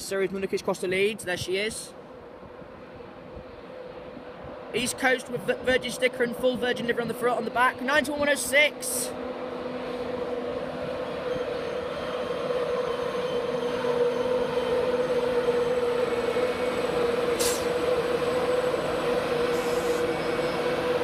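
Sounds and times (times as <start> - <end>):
electric train whine: 2.0 - 21.0
train wheels rumbling: 3.9 - 21.0.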